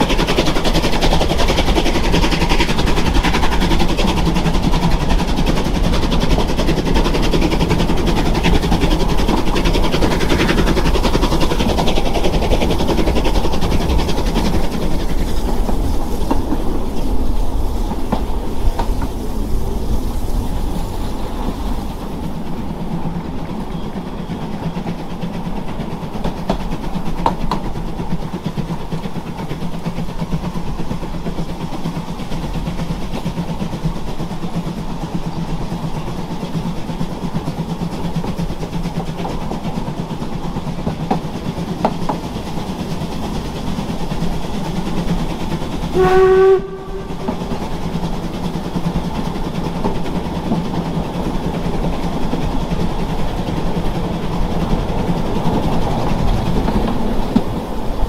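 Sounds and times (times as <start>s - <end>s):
train rumble and rattle: 0.0s - 58.0s
train wheels clicking: 0.0s - 58.0s.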